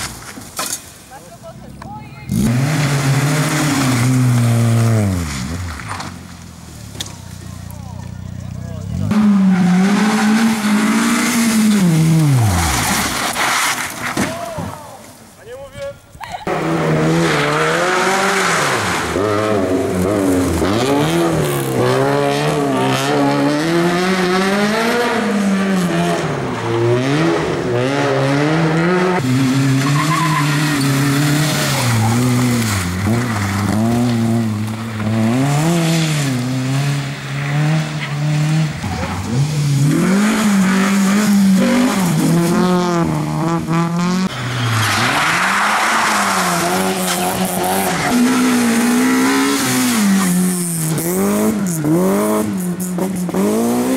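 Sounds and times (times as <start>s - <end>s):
rally car engines revving: 0.0s - 15.4s, 16.4s - 53.9s
tyres skidding: 0.0s - 53.9s.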